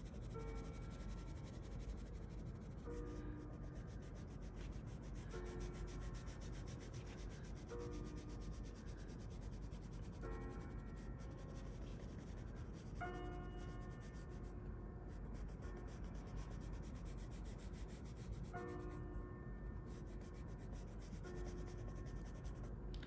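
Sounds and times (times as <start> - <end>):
pencil scratching on paper: 0.0 - 14.5, 15.1 - 19.0, 19.9 - 22.8.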